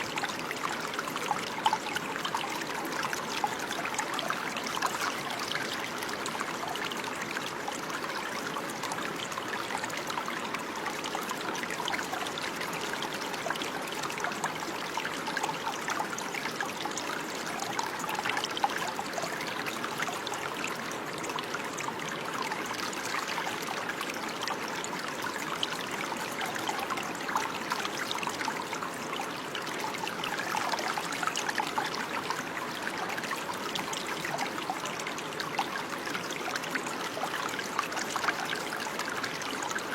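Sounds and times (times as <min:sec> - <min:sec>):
stream trickling and burbling: 0:00.0 - 0:39.9.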